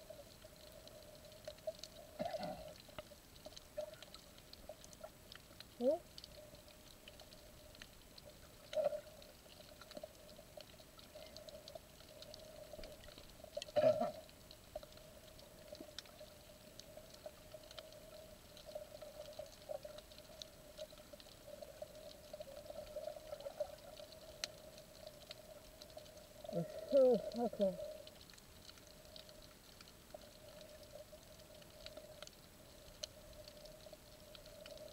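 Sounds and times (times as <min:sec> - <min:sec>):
faint scattered clicks: 0:00.0 - 0:34.9
low underwater hum: 0:00.0 - 0:34.9.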